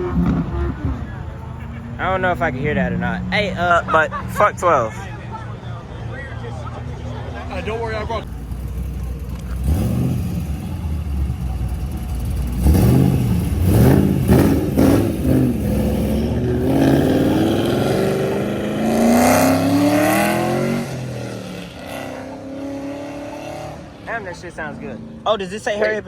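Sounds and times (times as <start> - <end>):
car engine revving: 0.0 - 25.5.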